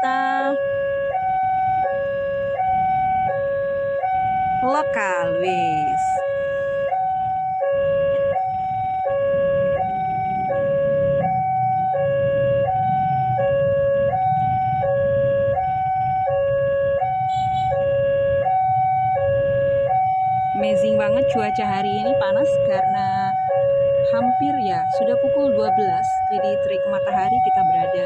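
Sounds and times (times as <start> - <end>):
two-tone crossing alarm: 0.0 - 28.0.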